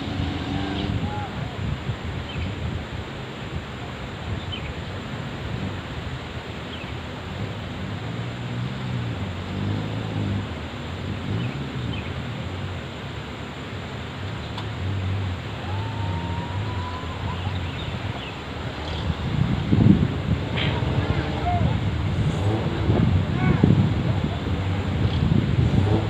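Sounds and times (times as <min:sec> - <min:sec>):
off-road vehicle engine running: 0:00.0 - 0:01.9, 0:04.8 - 0:26.0
wind noise on microphone: 0:00.0 - 0:12.9, 0:14.7 - 0:26.0.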